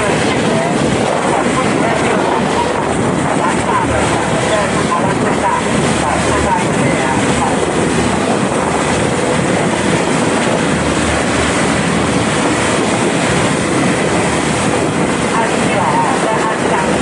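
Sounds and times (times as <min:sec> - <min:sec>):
motorboat engine running: 0:00.0 - 0:17.0
water rushing past hull: 0:00.0 - 0:17.0.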